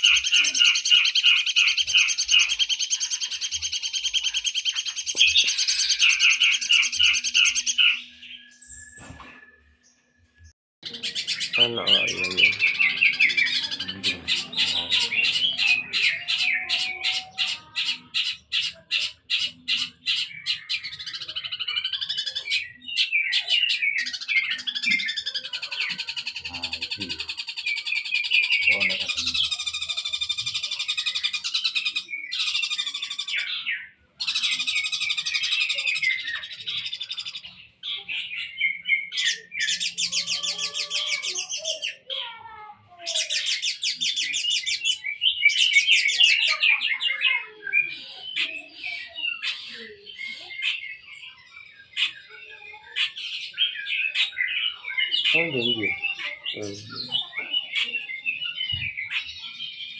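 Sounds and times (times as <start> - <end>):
songbirds chipping and trilling: 0.0 - 59.9.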